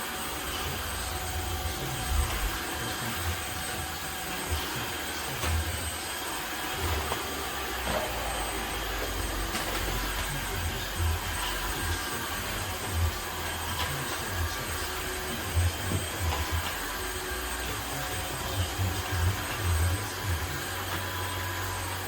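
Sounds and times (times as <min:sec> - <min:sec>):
vacuum mop running: 0:00.0 - 0:22.0.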